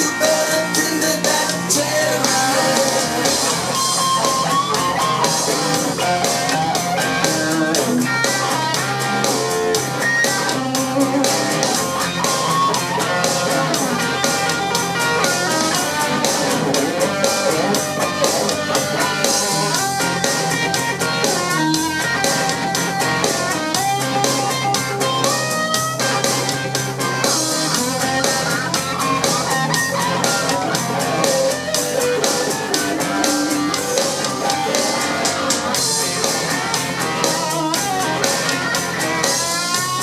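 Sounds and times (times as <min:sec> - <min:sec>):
rock music with guitars and drums: 0:00.0 - 0:40.0.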